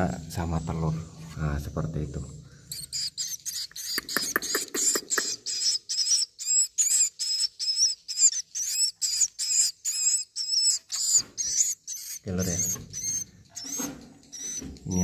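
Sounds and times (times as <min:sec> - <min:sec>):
nestling high-pitched chirps: 0:00.0 - 0:15.0.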